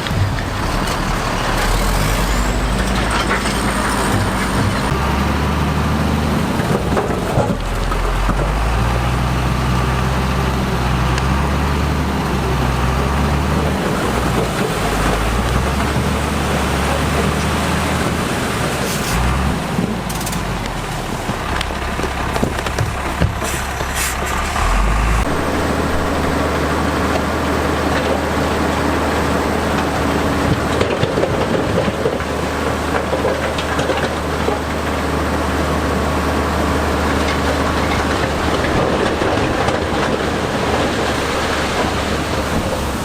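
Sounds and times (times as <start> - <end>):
diesel construction machinery running: 0.0 - 43.0.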